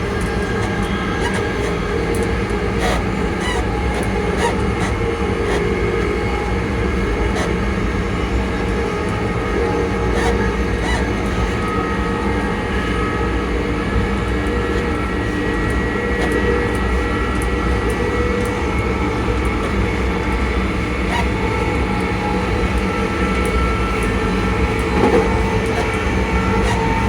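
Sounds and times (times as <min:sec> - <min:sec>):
electric train motors whining: 0:00.0 - 0:27.0
train wheels rumbling on rails: 0:00.0 - 0:27.0.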